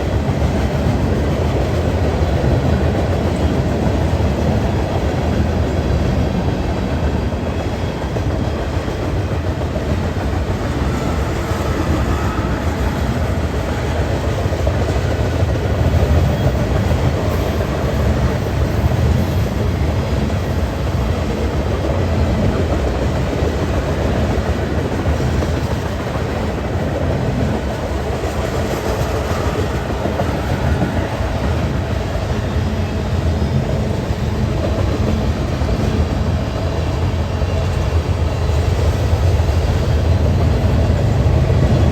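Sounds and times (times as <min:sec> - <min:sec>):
train cars rolling on rails: 0:00.0 - 0:41.9.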